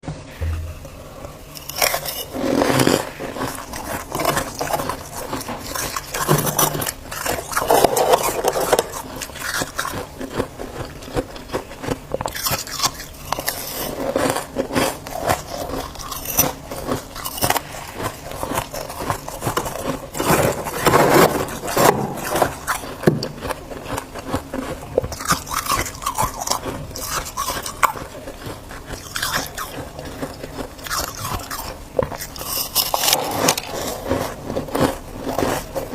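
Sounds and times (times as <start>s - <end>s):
frost being chewed crunching: 0.5s - 35.9s.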